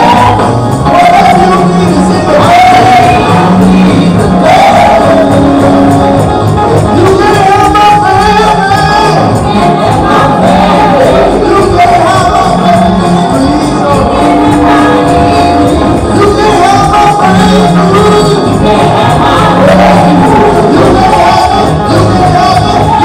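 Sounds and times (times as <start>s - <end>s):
gospel singing: 0.0s - 23.0s.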